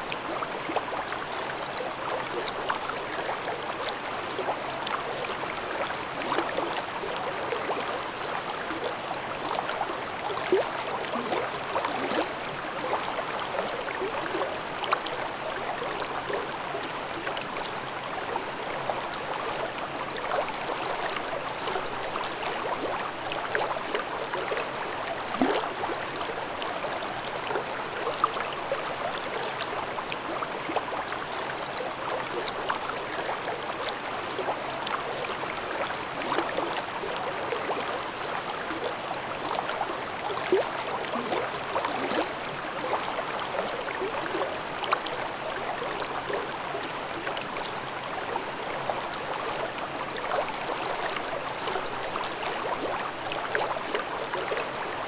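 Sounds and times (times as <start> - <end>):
brook babbling over rocks: 0.0 - 55.0.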